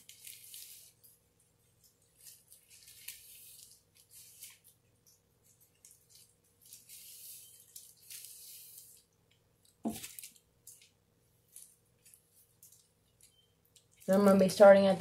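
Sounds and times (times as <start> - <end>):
hair rustling under gloved hands: 0.0 - 14.9.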